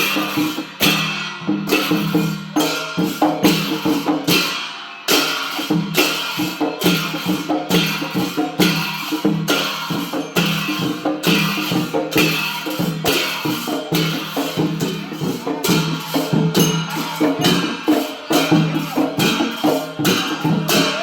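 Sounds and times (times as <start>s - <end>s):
pitched drum beating: 0.0s - 21.0s
ringing cymbals: 0.0s - 21.0s.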